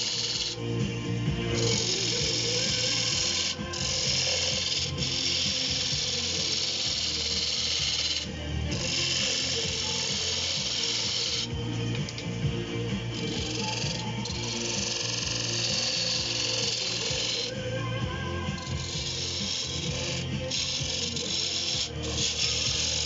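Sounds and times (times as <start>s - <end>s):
turning tool scraping wood: 0.0s - 0.6s, 1.5s - 12.3s, 13.0s - 17.6s, 18.5s - 23.0s
wood lathe running: 0.0s - 23.0s.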